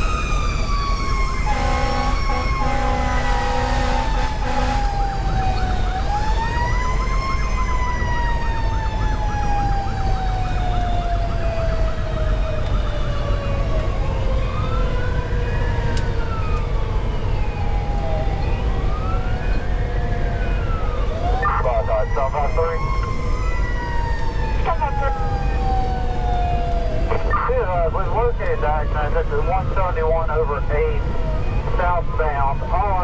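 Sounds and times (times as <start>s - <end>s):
diesel engine and road rumble: 0.0s - 33.0s
electronic siren yelp and wail: 0.0s - 33.0s.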